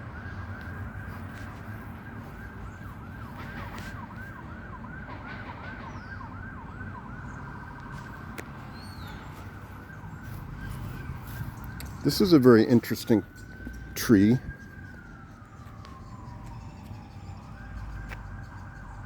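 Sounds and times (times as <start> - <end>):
emergency siren in fast yelp: 0.0 - 19.0.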